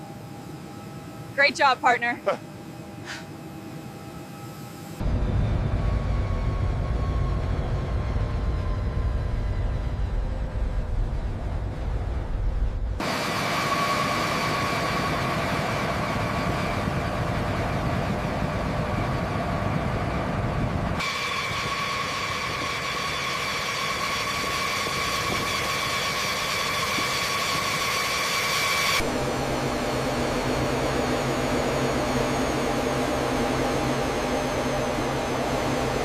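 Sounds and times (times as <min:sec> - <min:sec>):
high whine: 0:00.0 - 0:36.0
steady engine noise: 0:00.0 - 0:36.0.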